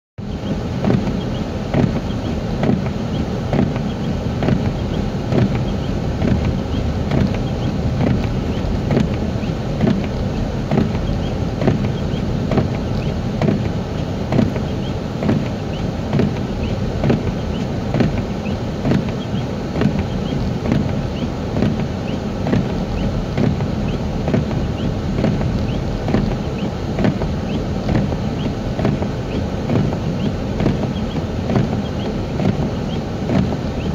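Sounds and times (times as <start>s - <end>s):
car engine and tyre noise: 0.2s - 33.9s.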